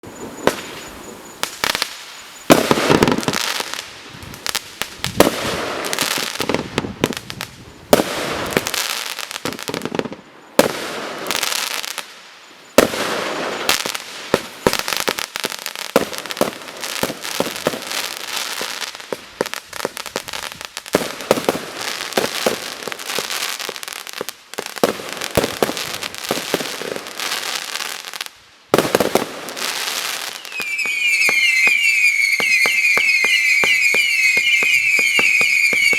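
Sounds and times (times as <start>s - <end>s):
firework shots and crackles: 0.3s - 35.9s.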